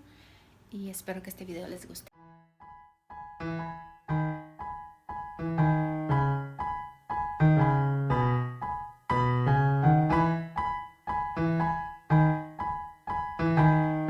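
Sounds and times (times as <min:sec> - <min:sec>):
keyboard piece: 0:02.2 - 0:14.0.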